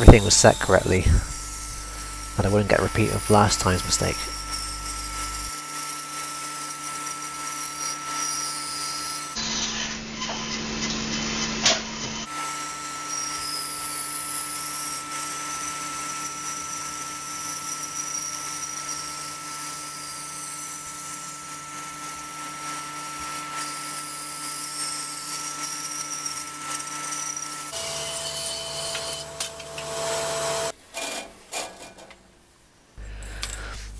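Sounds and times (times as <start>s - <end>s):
bandsaw cutting wood: 0.0s - 30.8s.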